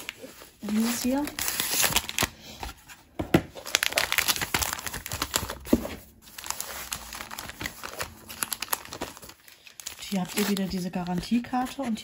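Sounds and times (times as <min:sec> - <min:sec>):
foam wrap crinkling: 0:00.0 - 0:02.9, 0:03.5 - 0:12.0.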